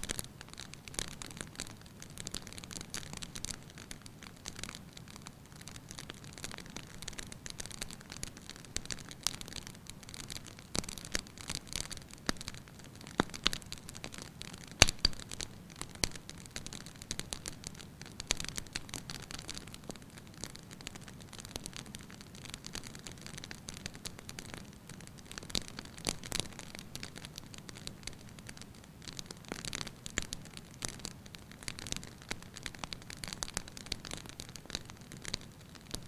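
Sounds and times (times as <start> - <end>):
soft steady hiss: 0.0 - 36.0
wood fire crackling and popping: 0.0 - 36.0.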